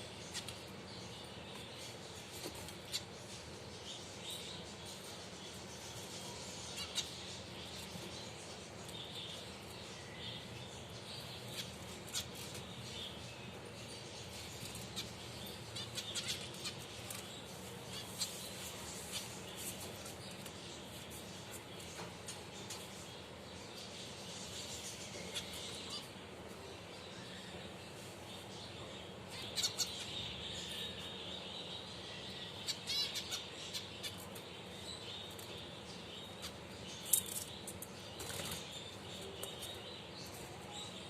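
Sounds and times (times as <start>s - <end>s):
finches chirping: 0.0s - 41.0s
low background hum: 0.0s - 41.0s.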